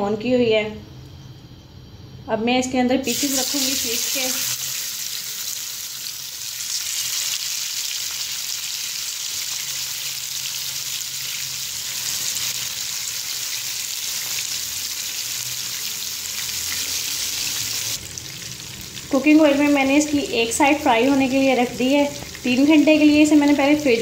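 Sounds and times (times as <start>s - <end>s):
fish sizzling in oil: 3.1s - 24.0s.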